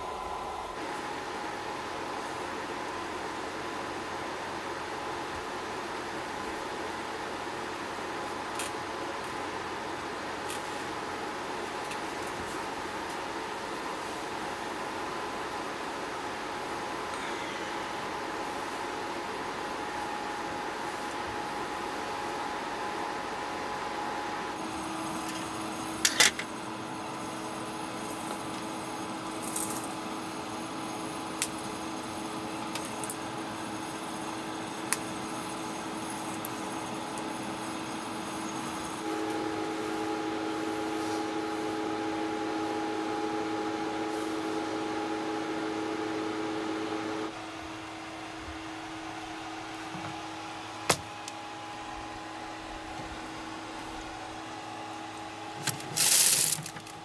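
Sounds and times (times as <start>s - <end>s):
appliance humming: 0.0s - 57.0s.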